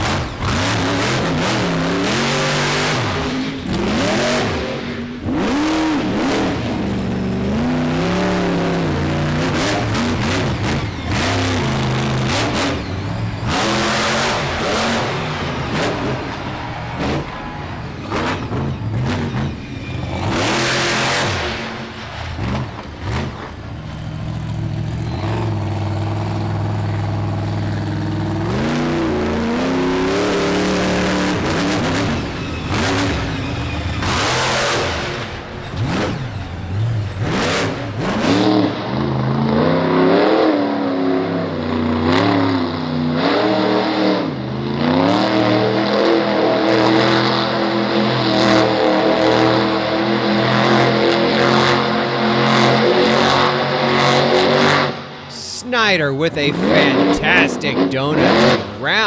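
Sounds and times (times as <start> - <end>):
monster truck engine revving: 0.0 - 55.4, 56.5 - 59.0.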